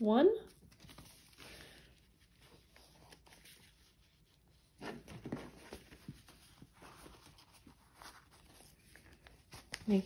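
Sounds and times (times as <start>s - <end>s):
paper and card rustling: 0.4s - 10.0s.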